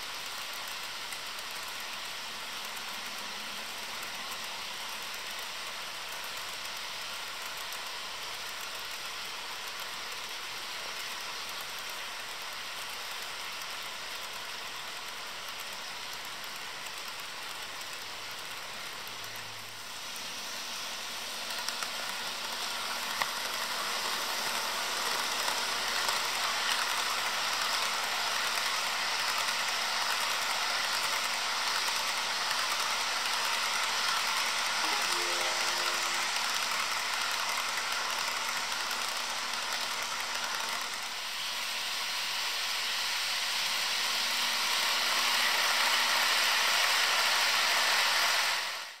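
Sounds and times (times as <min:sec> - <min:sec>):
model train wheels rattling: 0:00.0 - 0:44.0.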